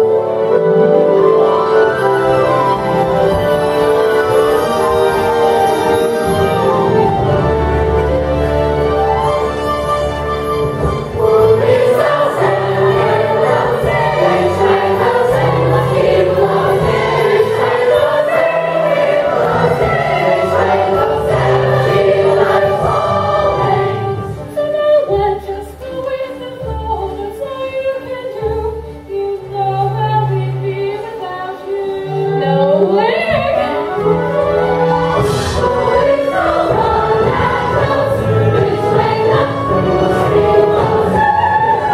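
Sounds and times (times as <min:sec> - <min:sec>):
chorus singing opera: 0:00.0 - 0:27.6, 0:31.0 - 0:41.9
low accompanying notes: 0:00.0 - 0:41.9.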